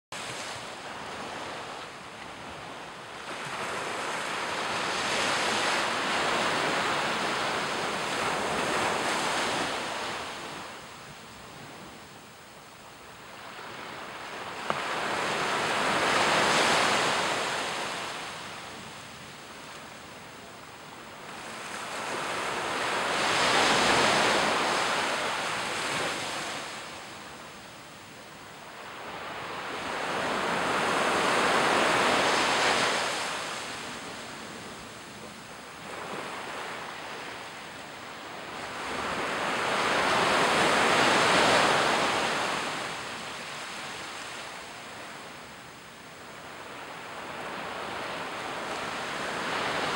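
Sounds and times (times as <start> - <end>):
small waves breaking on beach: 0.2 - 12.0, 12.9 - 49.9.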